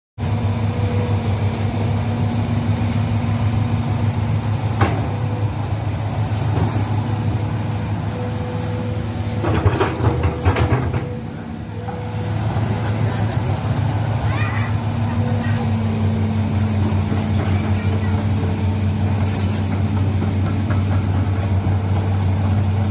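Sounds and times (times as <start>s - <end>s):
excavator diesel engine running: 0.2s - 22.9s.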